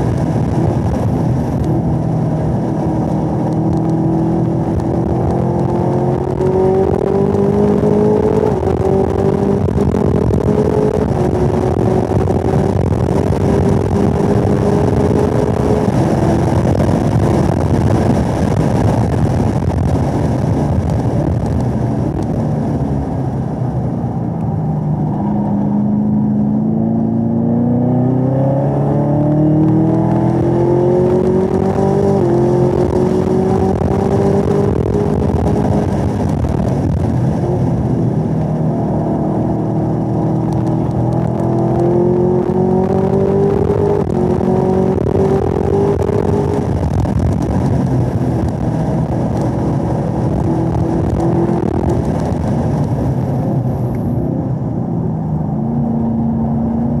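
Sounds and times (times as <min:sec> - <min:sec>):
car engine revving and downshifting: 0:00.0 - 0:57.0.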